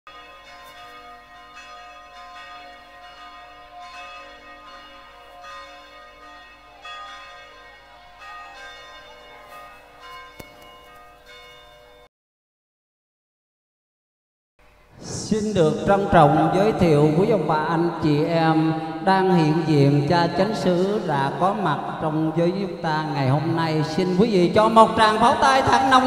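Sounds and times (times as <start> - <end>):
church bells ringing: 0.1 - 12.1, 14.6 - 26.0.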